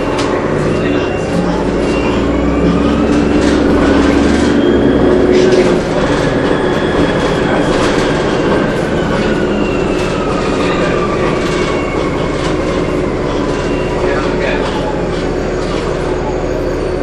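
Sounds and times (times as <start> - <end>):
bus body rattling: 0.0 - 17.0
deep bus rumble: 0.0 - 17.0.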